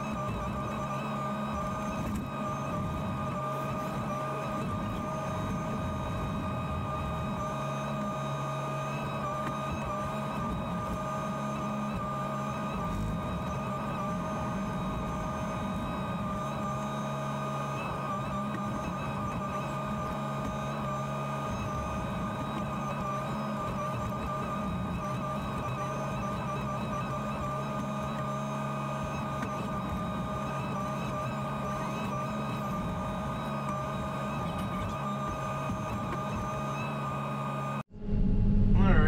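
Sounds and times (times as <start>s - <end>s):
steady high whine: 0.0s - 39.0s.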